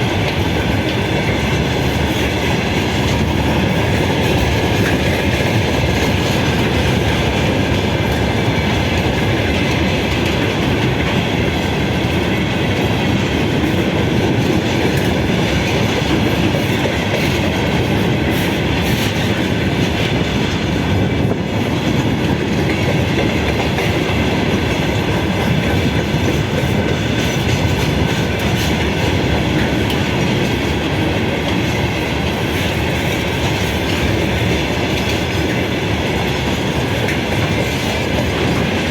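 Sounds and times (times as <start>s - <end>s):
train wagons rumbling past: 0.0s - 38.9s.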